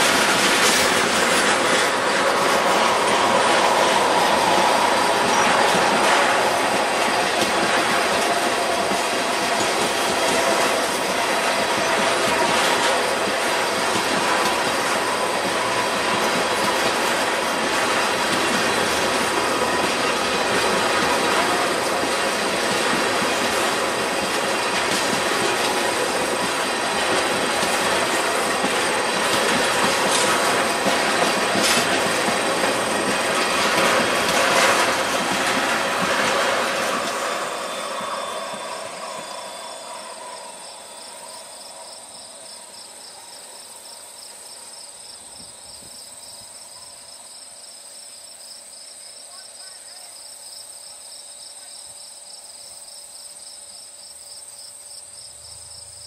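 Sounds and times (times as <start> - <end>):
crickets chirping: 0.0 - 56.0
freight train rumbling past: 0.0 - 56.0
train wheels clicking on rails: 0.0 - 56.0.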